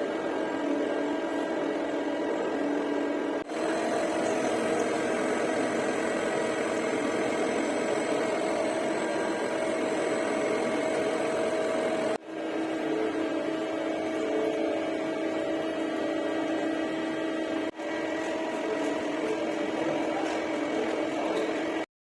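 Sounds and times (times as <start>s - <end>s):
lathe machine hum: 0.0s - 21.8s.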